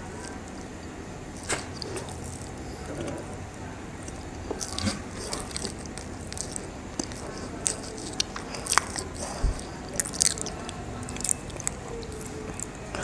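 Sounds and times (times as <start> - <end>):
chewing with wet mouth clicks: 1.3 - 3.3, 4.0 - 13.0.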